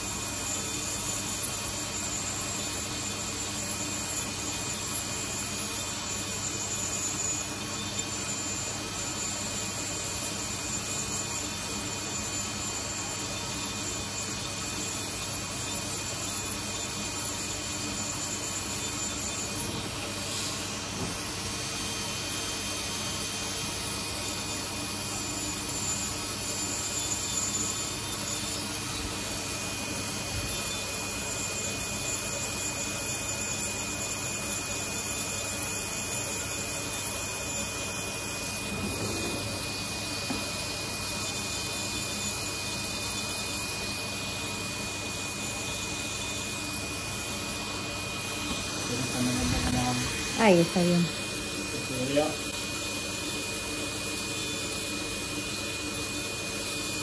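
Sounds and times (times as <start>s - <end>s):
nail drill grinding whine: 0.0s - 57.0s.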